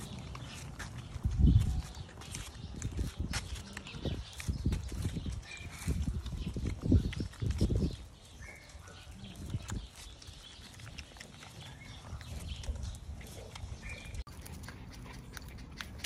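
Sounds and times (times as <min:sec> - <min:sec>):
puppies suckling wet clicks: 0:02.2 - 0:16.0.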